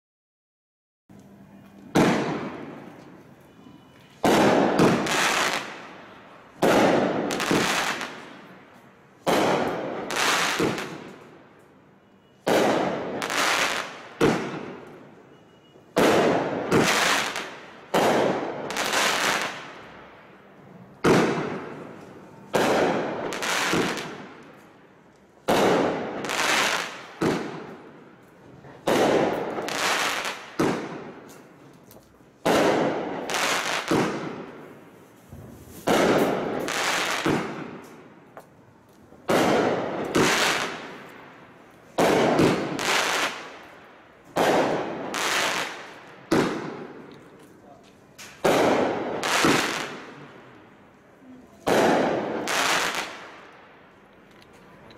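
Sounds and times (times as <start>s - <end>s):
fireworks shots: 1.8s - 3.2s, 4.1s - 20.3s, 21.0s - 24.8s, 25.4s - 31.6s, 32.4s - 38.5s, 39.1s - 53.7s.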